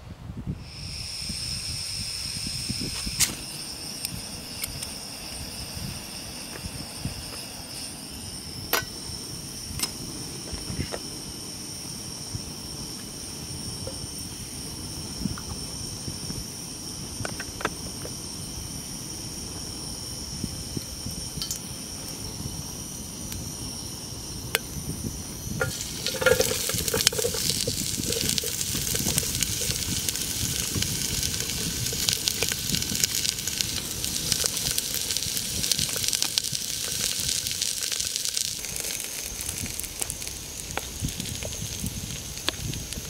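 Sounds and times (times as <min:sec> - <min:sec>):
onion sizzling in hot oil: 0:00.6 - 0:43.0.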